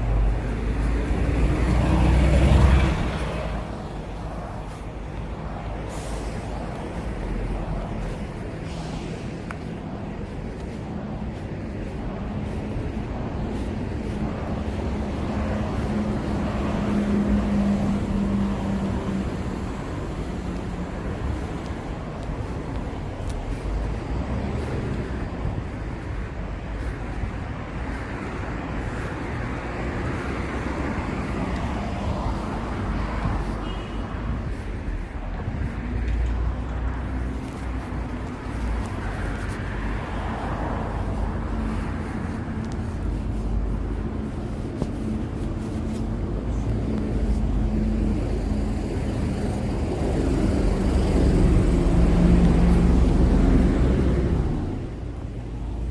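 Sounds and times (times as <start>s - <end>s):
road traffic rumble: 0.0s - 55.9s
vehicle engine hum: 0.0s - 55.9s
wind buffeting microphone: 0.0s - 55.9s.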